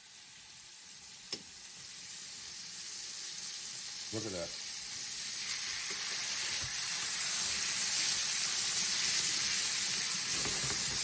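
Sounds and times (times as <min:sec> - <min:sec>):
steaks sizzling in a frying pan: 0:00.0 - 0:11.0.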